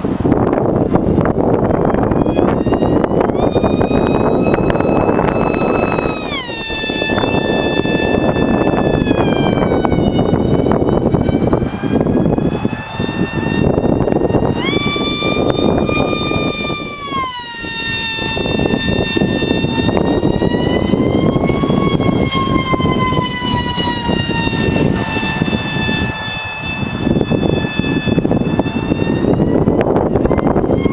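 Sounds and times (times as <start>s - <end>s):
model motor whine: 0.0s - 30.9s
steady rushing noise: 0.0s - 30.9s.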